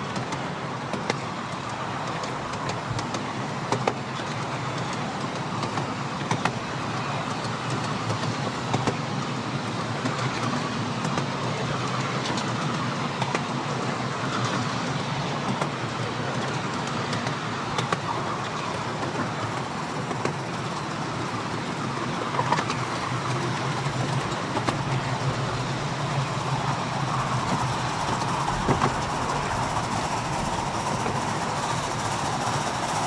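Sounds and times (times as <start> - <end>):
miniature steam train running past: 0.0 - 33.0.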